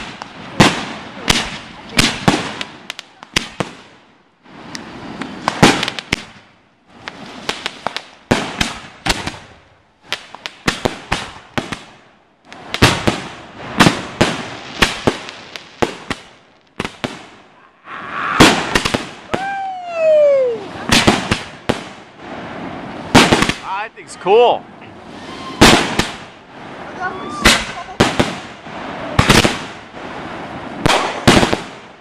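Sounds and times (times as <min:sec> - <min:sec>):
fireworks hiss: 0:00.0 - 0:19.6, 0:20.4 - 0:32.0
fireworks bangs and crackling: 0:00.0 - 0:32.0.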